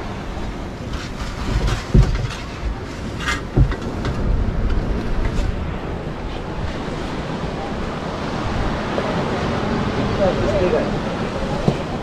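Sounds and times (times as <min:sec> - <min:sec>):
breaking surf: 0:00.0 - 0:12.0
wind buffeting microphone: 0:00.0 - 0:12.0.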